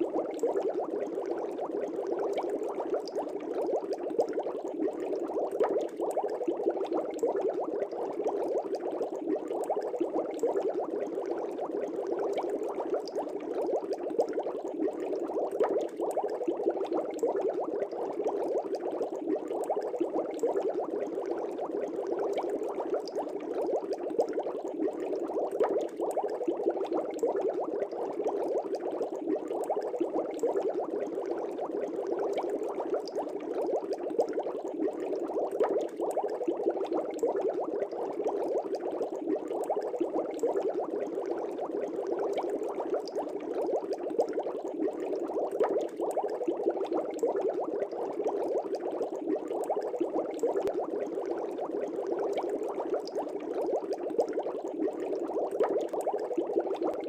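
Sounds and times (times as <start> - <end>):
aquarium air bubbles burbling: 0.0 - 57.0.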